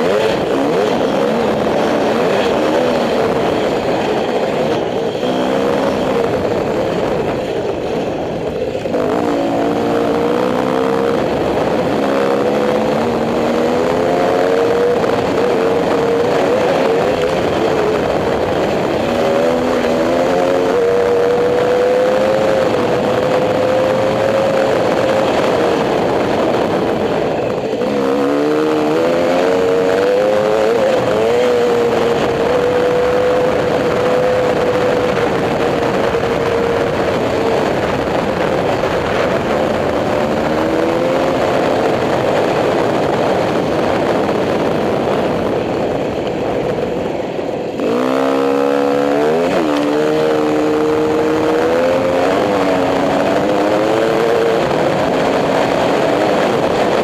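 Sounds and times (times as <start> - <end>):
dirt bike engine running: 0.0 - 57.0
wind noise on microphone: 0.0 - 57.0.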